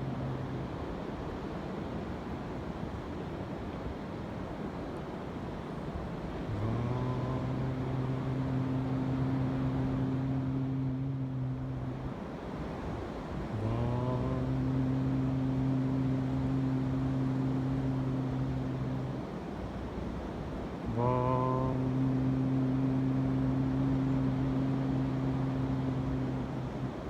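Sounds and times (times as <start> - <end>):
man chanting long tones: 0.0 - 1.6, 5.8 - 27.0.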